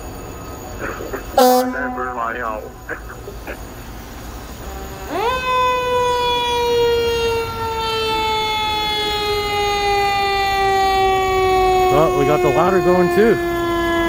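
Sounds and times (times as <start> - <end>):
fire truck siren wailing: 0.0 - 14.0.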